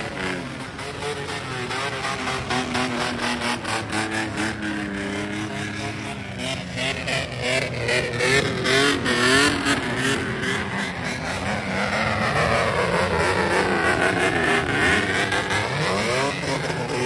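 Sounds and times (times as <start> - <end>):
loud car engines revving: 0.0 - 17.0.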